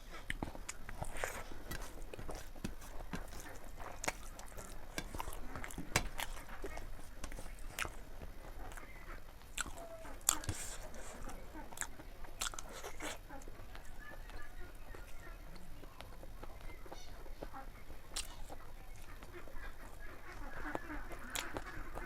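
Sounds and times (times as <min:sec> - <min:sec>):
chewing and crunching: 0:00.0 - 0:22.0.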